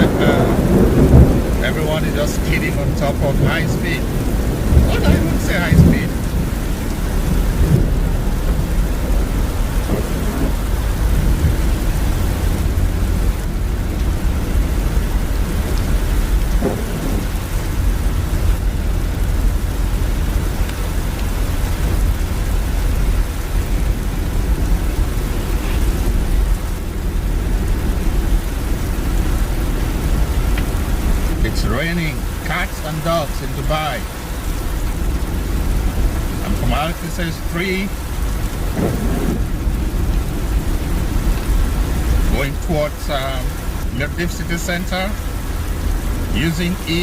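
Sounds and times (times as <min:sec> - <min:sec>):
driving on wet highway rumble: 0:00.0 - 0:47.0
heavy rain falling: 0:00.0 - 0:47.0.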